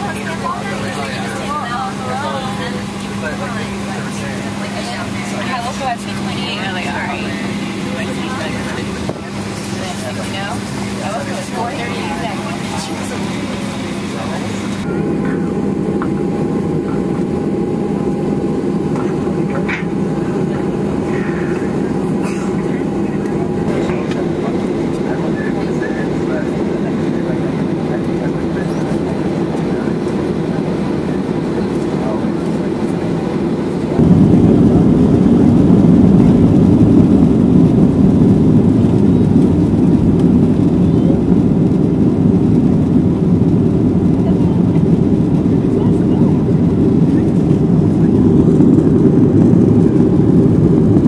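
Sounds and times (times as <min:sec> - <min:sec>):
airflow noise: 0:00.0 - 0:51.0
airliner cabin roar: 0:00.0 - 0:51.0.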